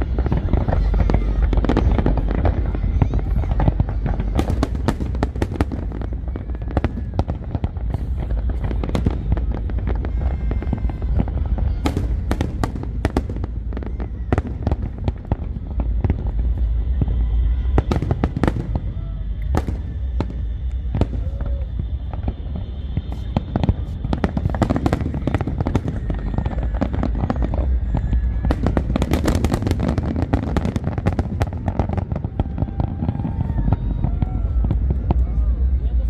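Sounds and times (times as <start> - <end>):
fireworks cracking and banging: 0.0 - 36.0.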